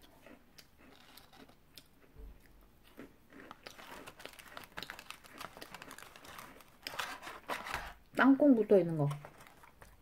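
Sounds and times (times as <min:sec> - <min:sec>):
chewing crunchy cookie: 0:00.0 - 0:08.0, 0:08.9 - 0:10.0.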